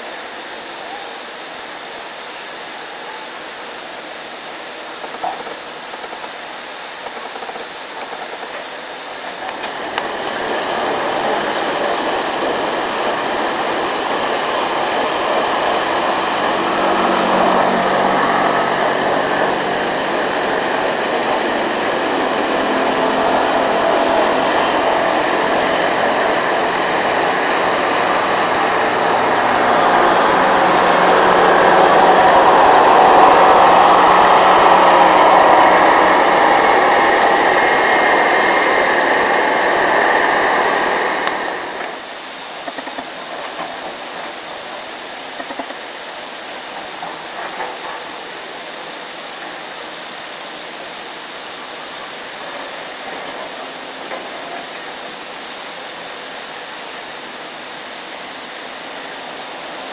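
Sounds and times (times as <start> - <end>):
steam venting roar: 0.0 - 59.9.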